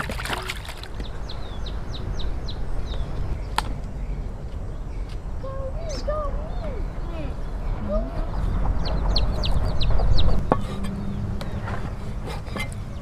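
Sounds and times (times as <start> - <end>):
small bird chirping: 0.9 - 12.0.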